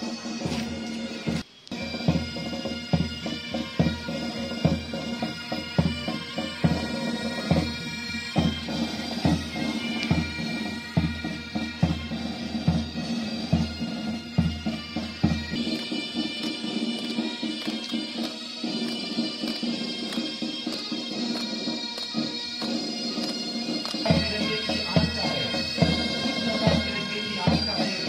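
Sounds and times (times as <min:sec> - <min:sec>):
bagpipes playing a march: 0:00.0 - 0:28.0.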